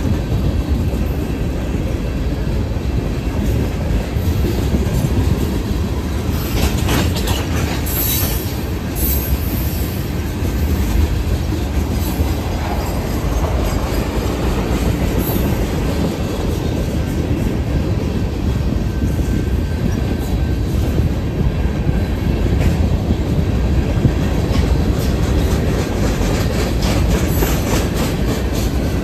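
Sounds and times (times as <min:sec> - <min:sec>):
rail joints clickety-clack: 0:00.0 - 0:29.0
train wheels rumbling on rail: 0:00.0 - 0:29.0.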